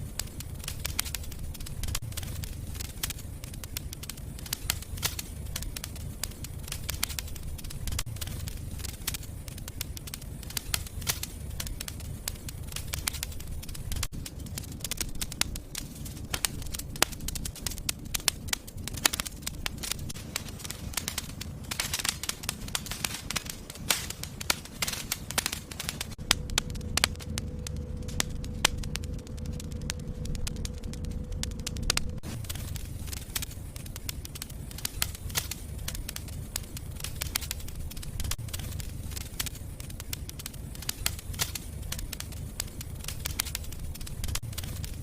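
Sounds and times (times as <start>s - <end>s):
fire crackling and popping: 0.0s - 45.0s
low fire rumble: 0.0s - 45.0s.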